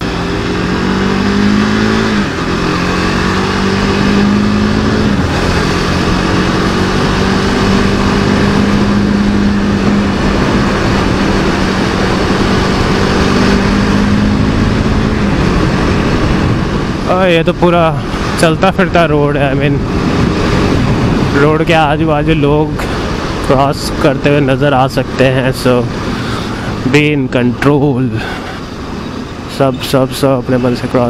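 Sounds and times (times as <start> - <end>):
motorcycle engine accelerating: 0.0 - 31.0
wind and road noise: 0.0 - 31.0.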